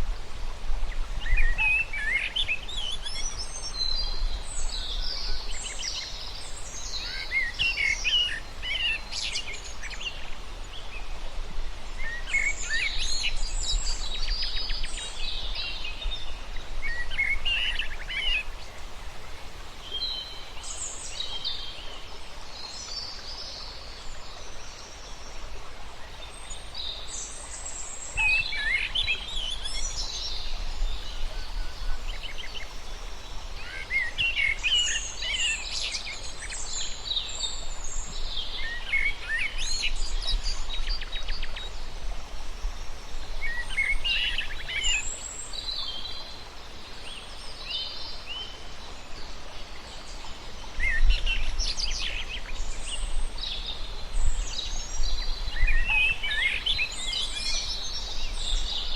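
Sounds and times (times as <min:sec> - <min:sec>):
background hiss: 0:00.0 - 0:58.9.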